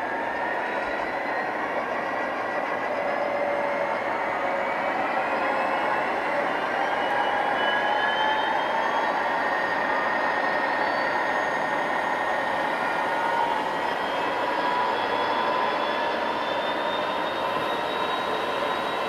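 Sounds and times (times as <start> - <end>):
diesel locomotive sound effects: 0.0 - 19.0.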